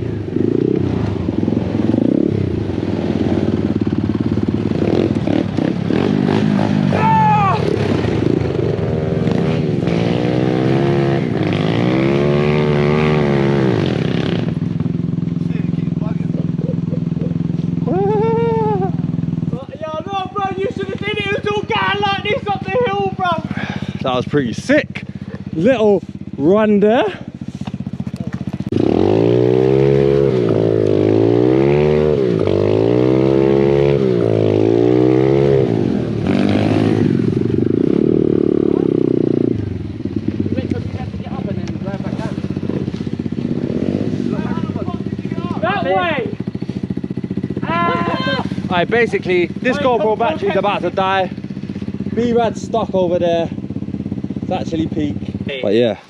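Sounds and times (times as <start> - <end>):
pit bike engine revving: 0.0 - 56.0.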